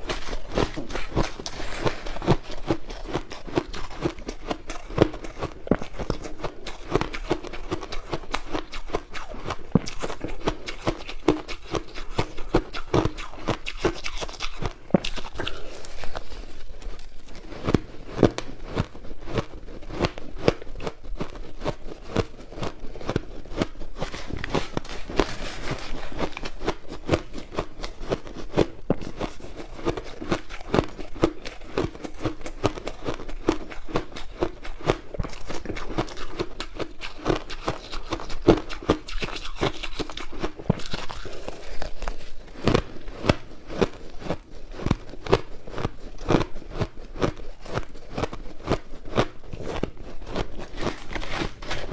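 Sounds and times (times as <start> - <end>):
ice being chewed crunching: 0.0 - 51.9.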